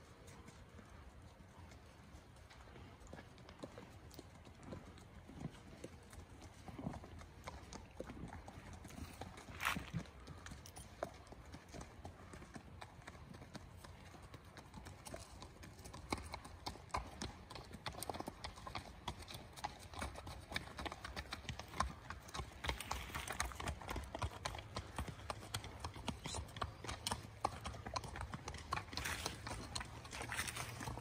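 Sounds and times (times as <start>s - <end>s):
horse hooves on gravel: 0.0s - 31.0s.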